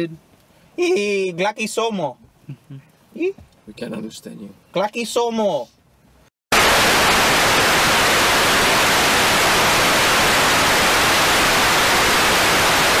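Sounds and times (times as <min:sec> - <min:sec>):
television static hiss: 0:00.0 - 0:05.6, 0:06.5 - 0:13.0.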